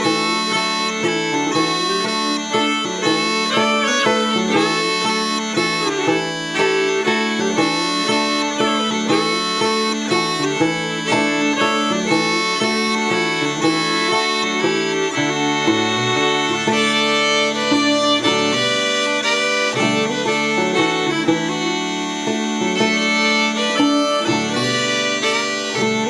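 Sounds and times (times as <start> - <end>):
bagpipe drone: 0.0 - 26.0
smallpipes playing a waltz melody: 0.0 - 26.0.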